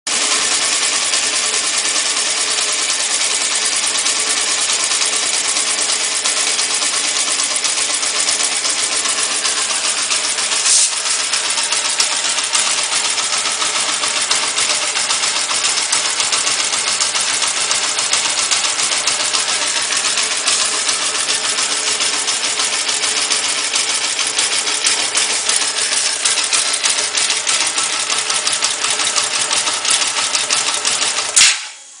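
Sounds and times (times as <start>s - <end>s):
engine idling: 0.1s - 31.9s.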